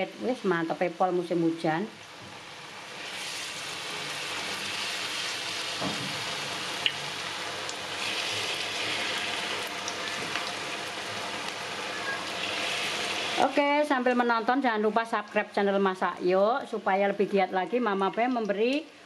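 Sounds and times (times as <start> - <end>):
fritters deep-frying in oil: 0.0 - 19.0.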